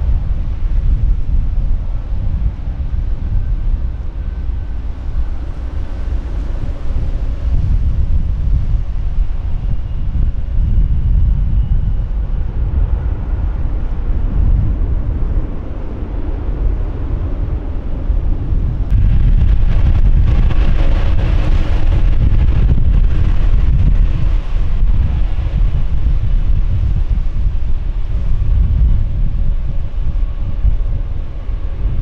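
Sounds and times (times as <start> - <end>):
jet engine hiss and whine: 0.0 - 32.0
jet engines rumbling: 0.0 - 32.0
wind buffeting microphone: 0.0 - 32.0.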